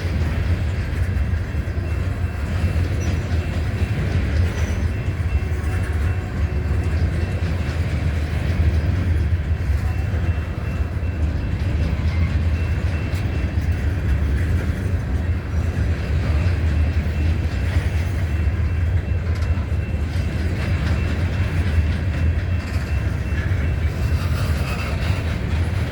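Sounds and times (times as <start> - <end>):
freight train wheels rumbling: 0.0 - 25.9.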